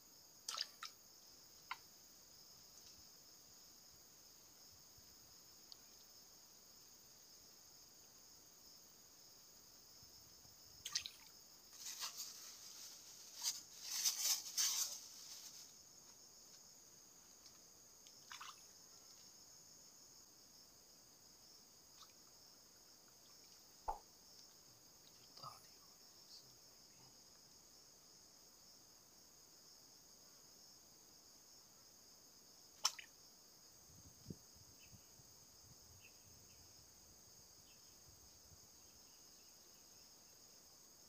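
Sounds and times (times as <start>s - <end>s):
insects chirring: 0.0s - 41.0s.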